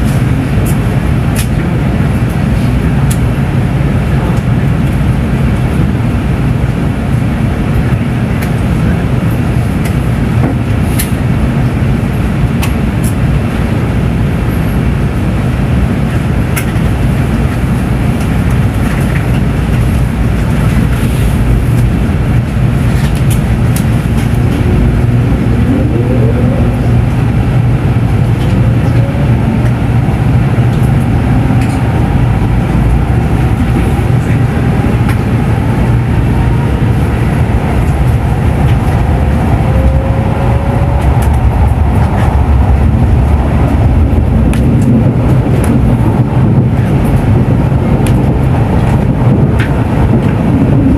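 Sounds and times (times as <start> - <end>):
train low rumble: 0.0 - 50.9.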